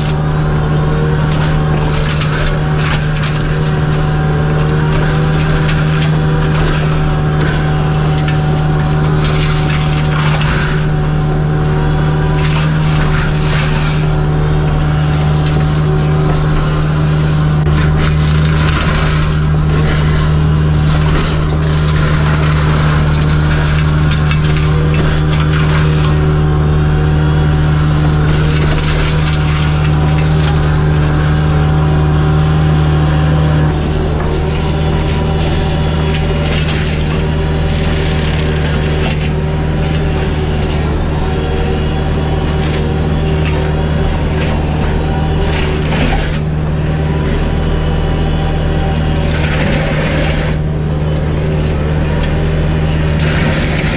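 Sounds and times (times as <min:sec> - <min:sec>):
diesel engine running under load: 0:00.0 - 0:53.9
wood crackling and splintering: 0:00.0 - 0:53.9.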